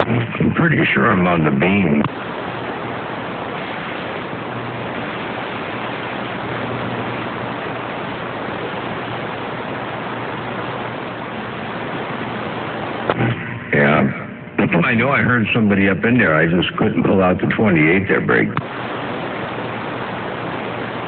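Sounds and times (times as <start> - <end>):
faint low hum: 0.0 - 21.0
radio static hiss: 0.0 - 21.0.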